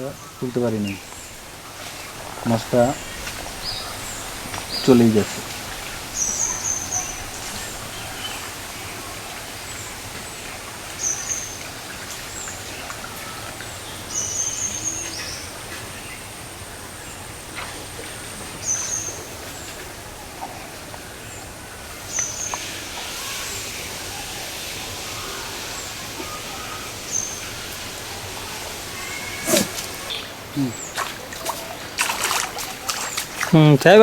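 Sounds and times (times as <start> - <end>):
outdoor background noise: 0.0 - 34.0.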